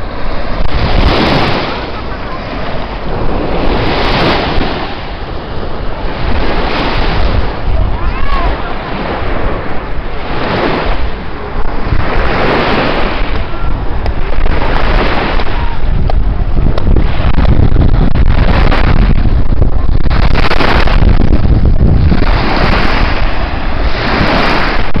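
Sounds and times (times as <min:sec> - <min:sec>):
surf washing on sandy shore: 0:00.0 - 0:25.0
wind buffeting microphone: 0:00.0 - 0:25.0.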